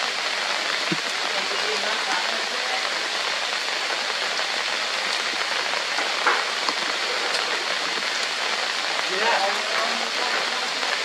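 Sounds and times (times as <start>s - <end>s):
hard rain on leaves: 0.0s - 11.0s.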